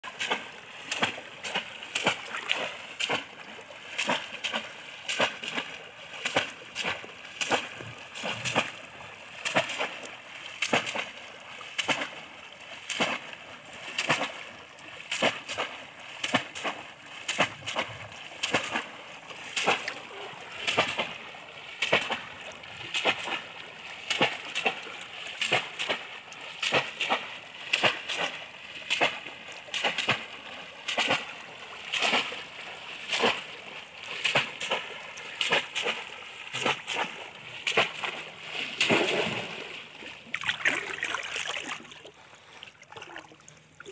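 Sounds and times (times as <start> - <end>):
fish traps splashing into water: 0.0 - 43.9.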